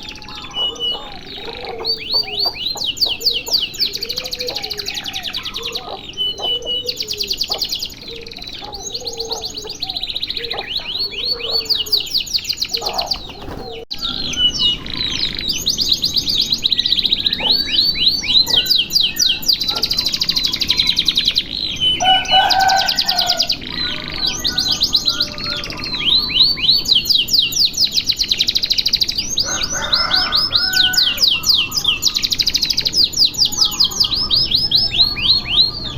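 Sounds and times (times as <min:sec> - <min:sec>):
canary singing rolling trills: 0:00.0 - 0:35.9.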